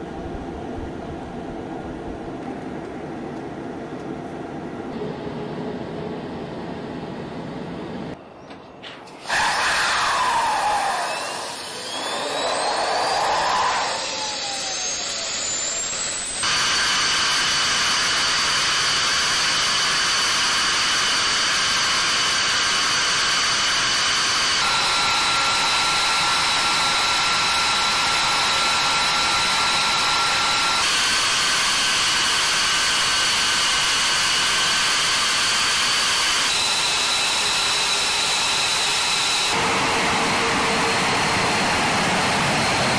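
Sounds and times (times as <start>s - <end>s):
jet turbine whine: 0.0s - 8.3s, 9.1s - 42.9s.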